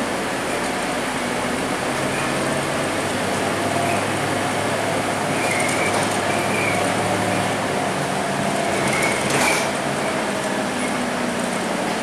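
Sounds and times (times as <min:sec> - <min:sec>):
bus diesel engine: 0:00.0 - 0:12.0
tyres hissing on wet road: 0:00.0 - 0:12.0.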